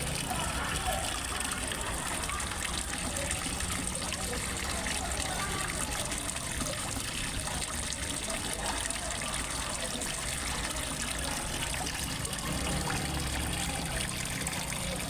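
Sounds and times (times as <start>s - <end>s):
water splashing into a pond: 0.0s - 15.0s.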